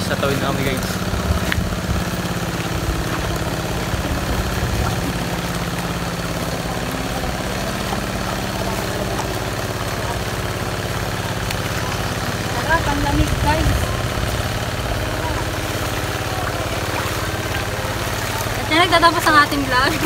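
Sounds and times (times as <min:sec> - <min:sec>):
low knocking and rumbling: 0:00.0 - 0:20.0
vehicle engine running: 0:00.0 - 0:20.0.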